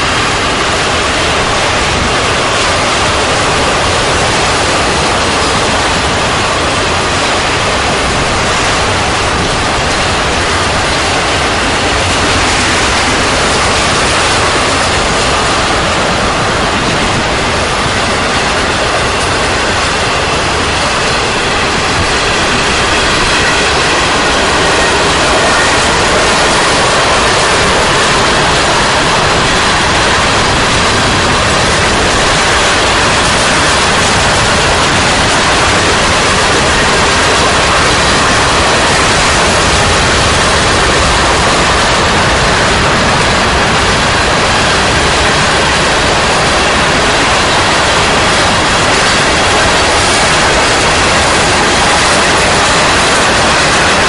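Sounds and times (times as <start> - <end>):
freight train wheels rushing: 0.0 - 54.0.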